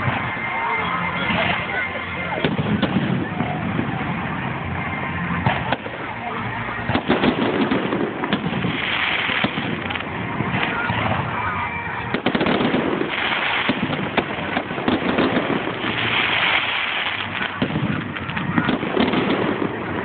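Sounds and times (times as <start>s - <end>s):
fireworks bangs and cracks: 0.0s - 20.0s.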